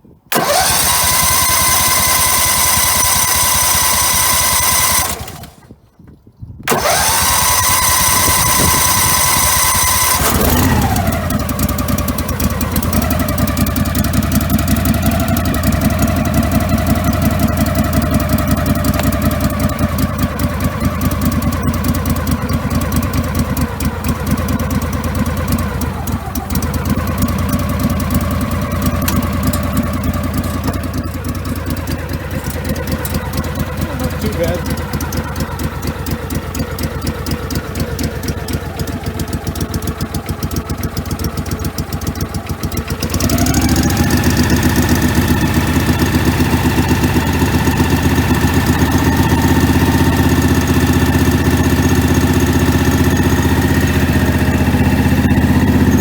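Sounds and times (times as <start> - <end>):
electric starter cranking: 0.3 - 5.8, 6.7 - 56.0
small engine running: 0.3 - 5.8, 6.7 - 56.0.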